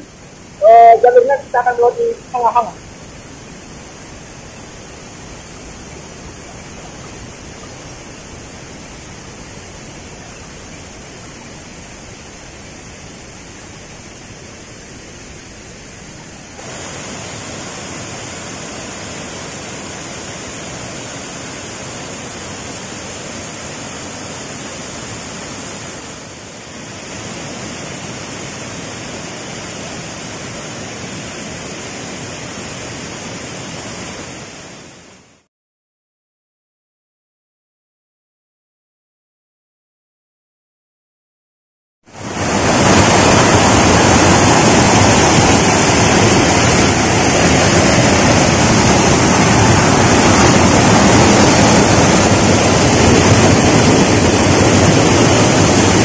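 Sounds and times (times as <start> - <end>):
waterfall rushing: 0.0 - 35.5, 42.1 - 56.0.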